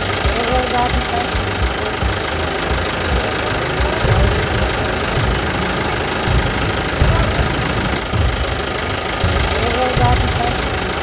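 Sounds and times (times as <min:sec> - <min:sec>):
motor running with low throb: 0:00.0 - 0:11.0.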